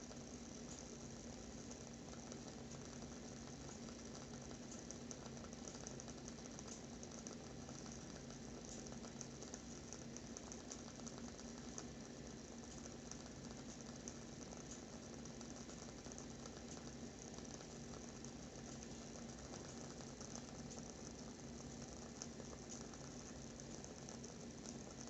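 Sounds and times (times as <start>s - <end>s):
candle wick crackling: 0.1s - 25.0s.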